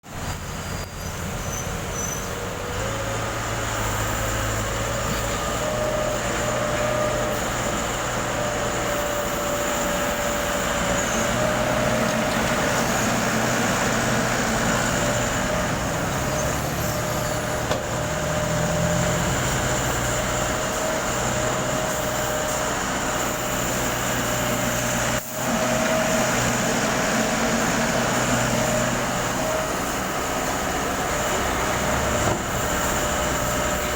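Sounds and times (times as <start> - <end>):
backhoe engine running: 0.0 - 33.9.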